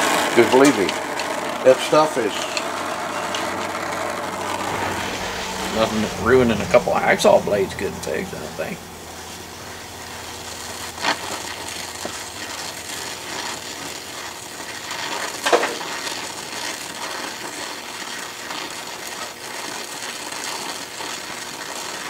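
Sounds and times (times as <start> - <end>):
welding torch hissing: 0.0 - 22.0.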